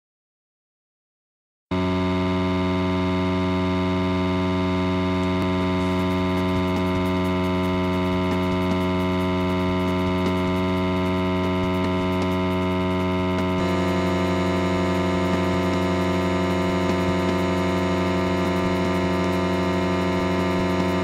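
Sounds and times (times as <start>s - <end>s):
electronic buzzing drone: 1.7s - 21.0s.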